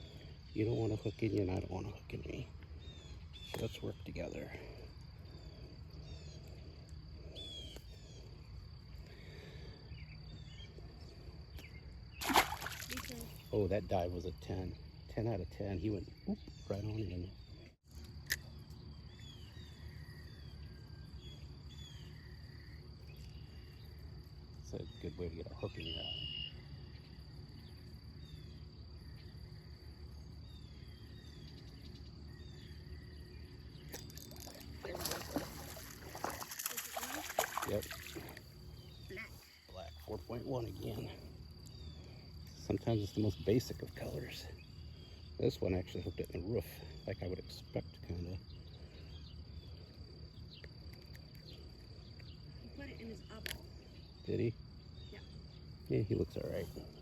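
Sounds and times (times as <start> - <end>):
high insect trilling: 0.0 - 57.0.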